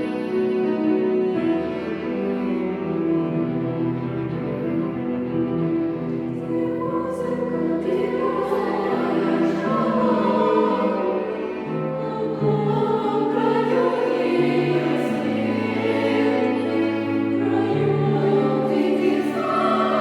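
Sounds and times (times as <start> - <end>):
children's choir singing: 0.0 - 3.3, 6.1 - 20.0
cello held notes: 0.0 - 20.0.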